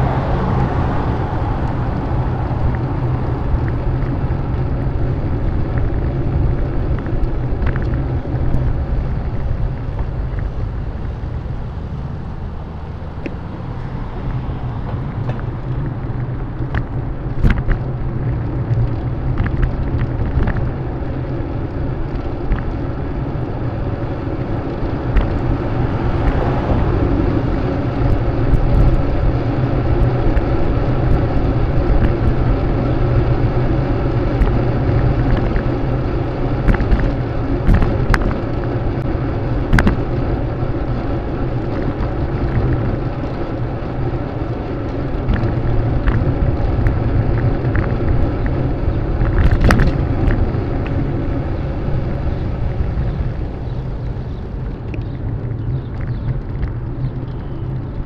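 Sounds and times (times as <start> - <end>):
road and traffic rumble: 0.0 - 58.0.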